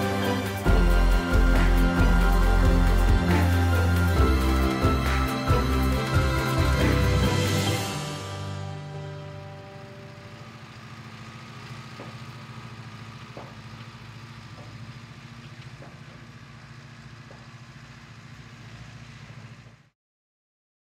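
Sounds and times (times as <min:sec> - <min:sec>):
tractor engine idling: 0:00.0 - 0:19.9.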